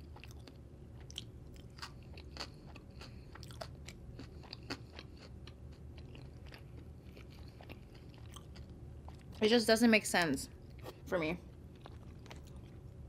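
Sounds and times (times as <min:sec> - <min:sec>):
person chewing food: 0:00.0 - 0:09.4, 0:10.6 - 0:13.0.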